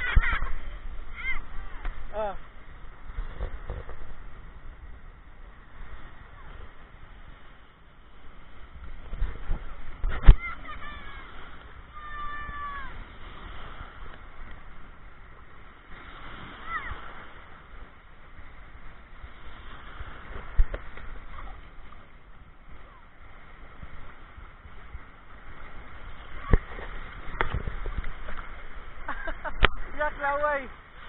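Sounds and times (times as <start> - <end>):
waves washing in shallow surf: 0.0 - 31.0.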